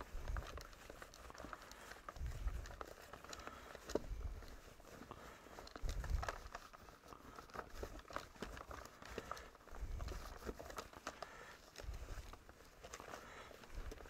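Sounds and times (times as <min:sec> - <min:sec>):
cloth rubbing plastic: 0:00.0 - 0:14.0
plastic parts clicking and knocking: 0:00.0 - 0:14.0.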